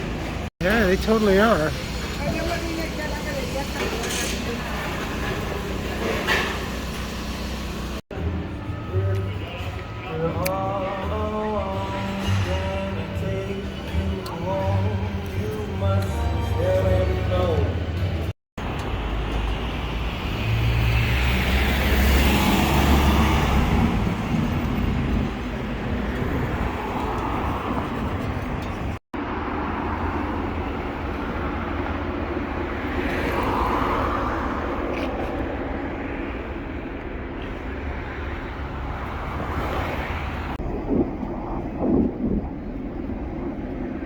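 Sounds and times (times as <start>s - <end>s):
cars passing: 0.0s - 44.0s.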